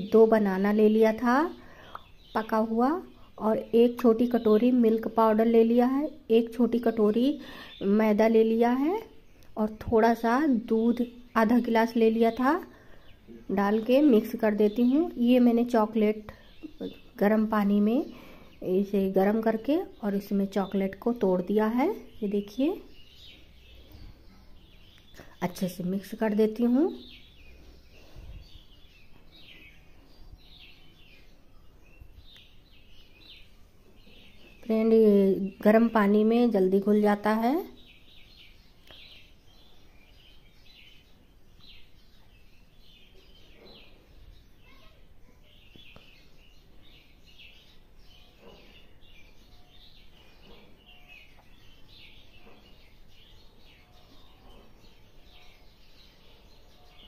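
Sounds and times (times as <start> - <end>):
faint bird chirping: 0.0 - 57.0
low background noise: 0.0 - 57.0.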